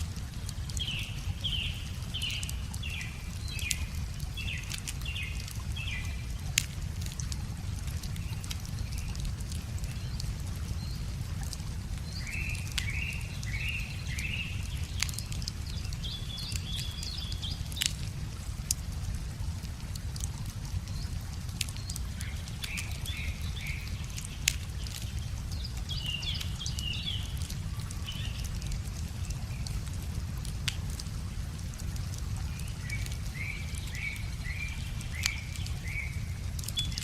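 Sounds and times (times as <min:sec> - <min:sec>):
wood fire crackling and popping: 0:00.0 - 0:37.0
songbirds calling: 0:00.2 - 0:18.4, 0:19.8 - 0:37.0.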